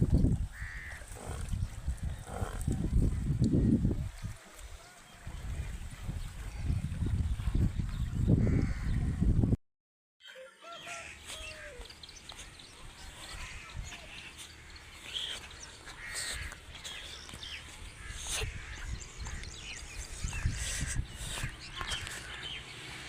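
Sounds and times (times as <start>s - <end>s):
birds chirping: 0.0s - 9.2s, 10.2s - 23.0s.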